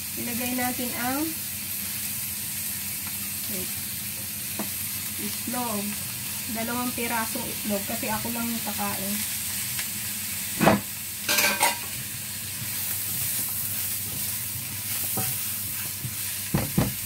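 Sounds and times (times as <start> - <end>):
fruit sizzling in hot oil: 0.0 - 17.0.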